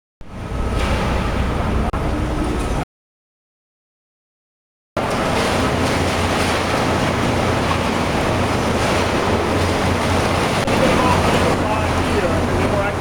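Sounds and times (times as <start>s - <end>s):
recycling machinery rushing and humming: 0.2s - 2.8s, 5.0s - 13.0s.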